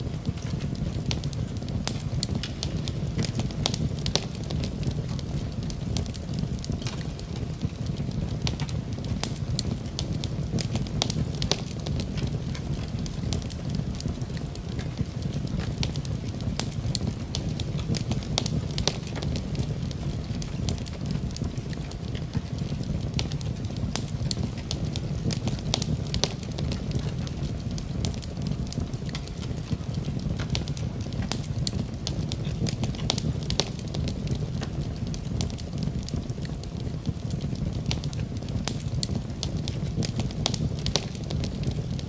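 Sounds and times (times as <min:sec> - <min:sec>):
low rumble of flames: 0:00.0 - 0:42.0
rain: 0:00.0 - 0:42.0
wood fire crackling and popping: 0:00.0 - 0:42.0.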